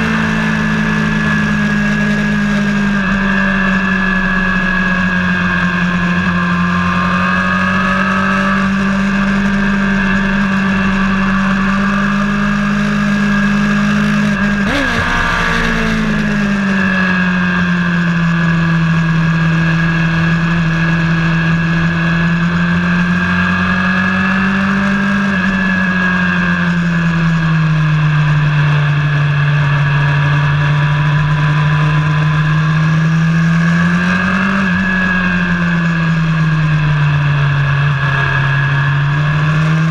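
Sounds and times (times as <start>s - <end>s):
engine at high revs: 0.0s - 39.9s.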